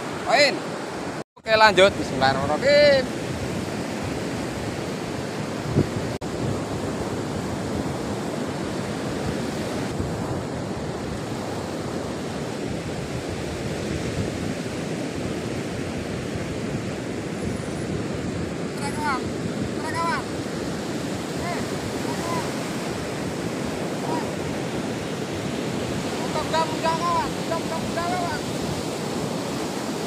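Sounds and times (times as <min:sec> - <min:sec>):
ocean surf breaking: 0:00.0 - 0:30.0
wind on microphone: 0:01.9 - 0:30.0.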